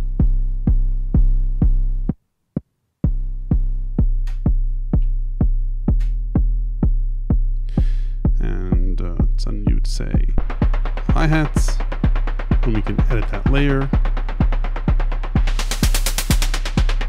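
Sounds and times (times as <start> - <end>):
synthesizer kick drum pattern: 0.0 - 2.2, 3.0 - 17.0.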